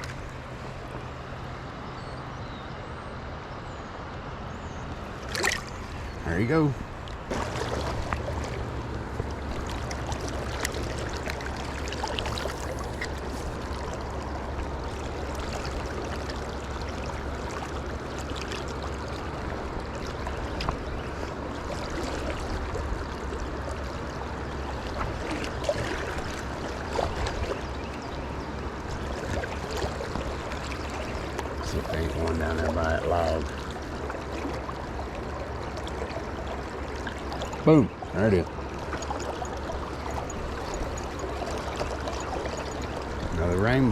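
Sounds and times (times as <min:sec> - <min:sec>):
river water running: 0:00.0 - 0:43.9.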